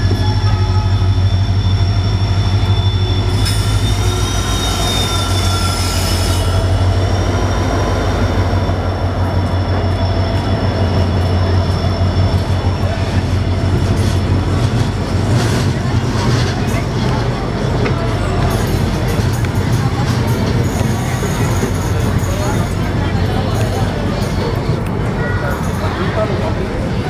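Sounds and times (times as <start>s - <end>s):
train brakes screeching: 0.0s - 17.0s, 18.1s - 26.2s
train rumble: 0.0s - 27.0s.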